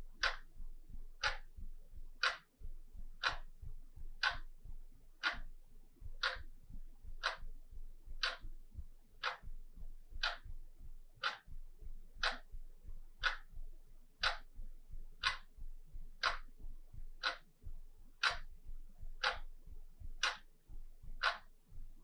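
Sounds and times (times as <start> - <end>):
wall clock ticking: 0.0 - 22.0.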